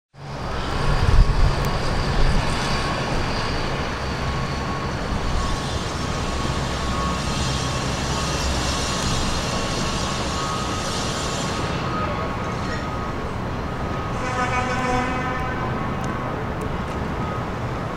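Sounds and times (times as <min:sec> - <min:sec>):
diesel locomotive engine running: 0:00.2 - 0:17.9
locomotive rolling on rails: 0:00.2 - 0:17.9.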